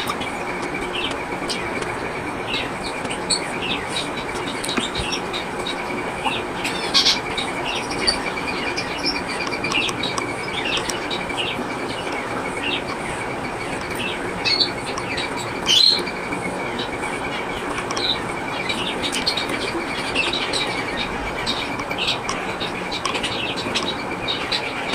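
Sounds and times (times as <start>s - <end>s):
finches chirping: 0.0s - 24.9s
steady rushing noise: 0.0s - 24.9s.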